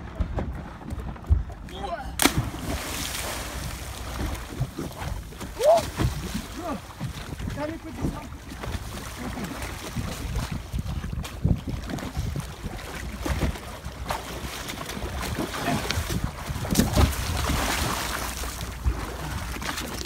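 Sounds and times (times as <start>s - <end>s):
water splashing and churning: 0.0s - 20.0s
wind rumble on microphone: 0.0s - 20.0s.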